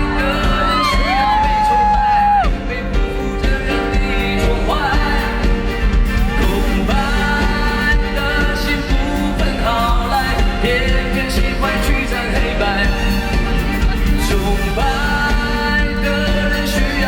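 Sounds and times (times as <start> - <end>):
live band music: 0.0 - 17.0
person singing: 0.0 - 17.0.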